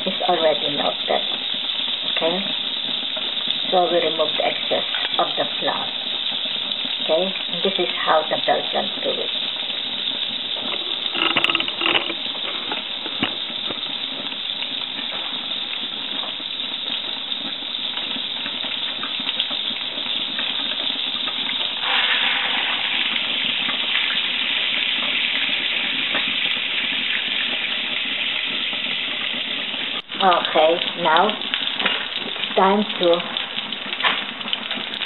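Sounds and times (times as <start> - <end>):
butter sizzling in a frying pan: 0.0 - 35.0
small crackles: 1.1 - 35.0.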